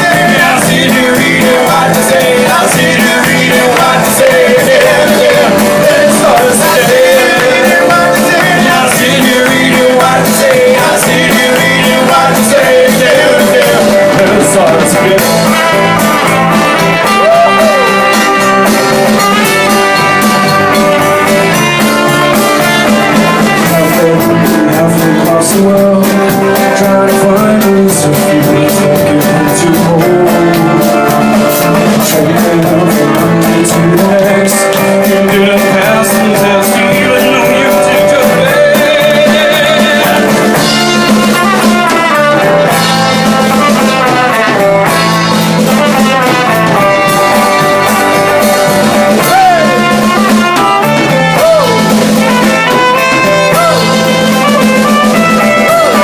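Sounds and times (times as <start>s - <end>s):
man singing: 0.0s - 56.0s
rock band playing: 0.0s - 56.0s.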